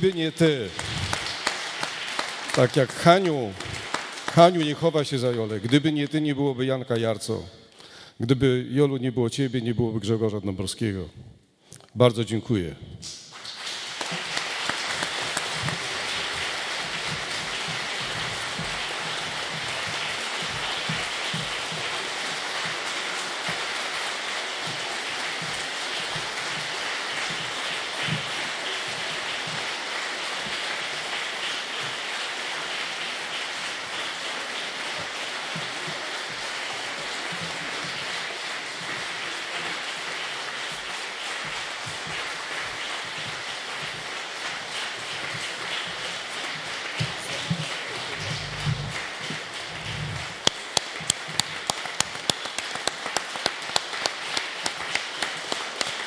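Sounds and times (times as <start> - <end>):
audience applauding: 0.0 - 6.0, 13.3 - 56.0.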